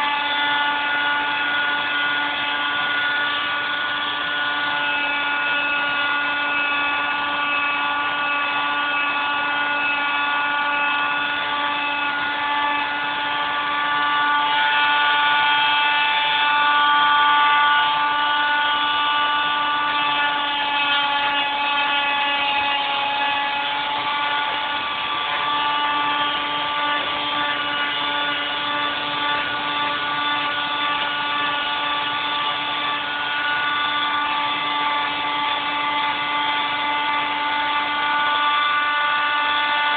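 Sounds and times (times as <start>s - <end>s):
electric grinder grinding wood: 0.0s - 39.9s.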